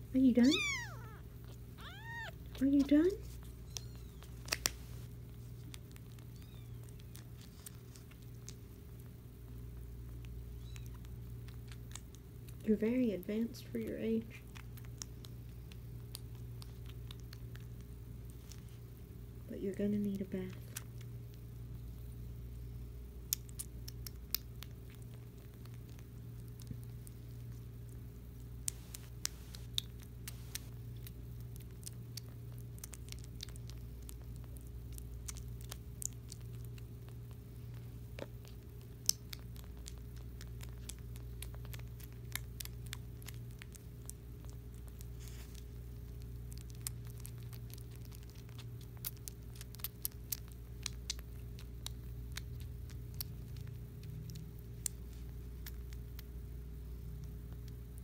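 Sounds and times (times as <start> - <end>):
steady low hum: 0.0 - 58.0
kitten eating wet food: 0.1 - 58.0.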